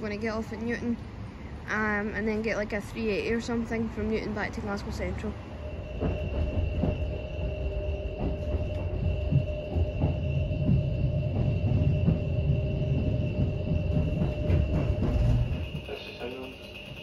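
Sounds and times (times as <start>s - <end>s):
constant train whine: 0.0s - 17.0s
train wheels rumbling on rail: 0.0s - 17.0s.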